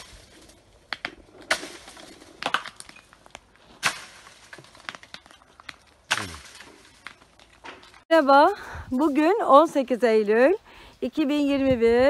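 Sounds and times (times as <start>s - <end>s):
branches rustling: 0.0s - 11.9s.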